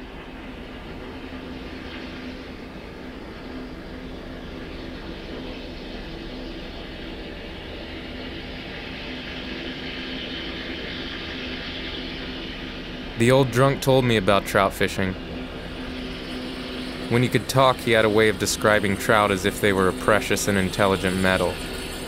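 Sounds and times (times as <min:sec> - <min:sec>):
mechanical drone with low hum: 0:00.0 - 0:22.0.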